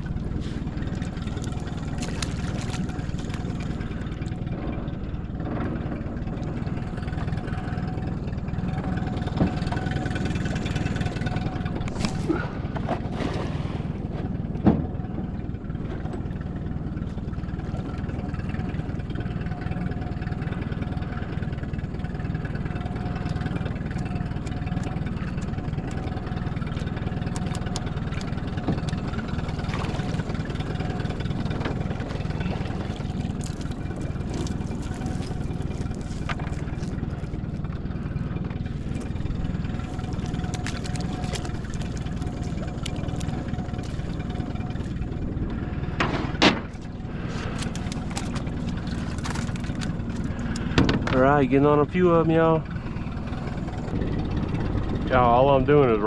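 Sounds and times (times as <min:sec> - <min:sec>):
outboard motor idling: 0:00.0 - 0:56.0.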